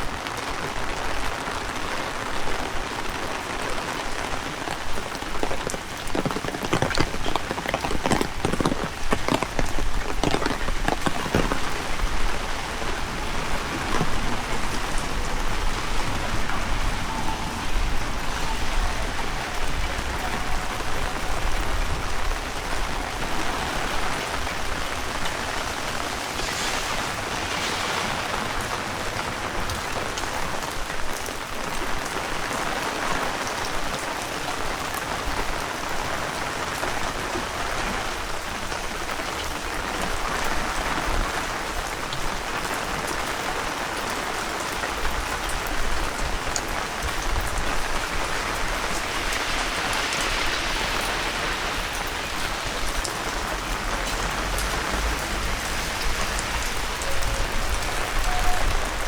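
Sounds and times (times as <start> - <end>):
heavy rain falling: 0.0 - 59.0
wind rumbling on microphone: 0.0 - 59.0.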